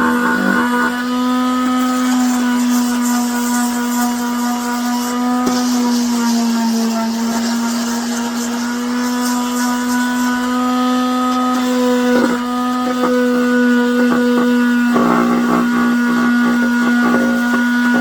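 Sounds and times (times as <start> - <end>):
small electric motor running: 0.0 - 18.0.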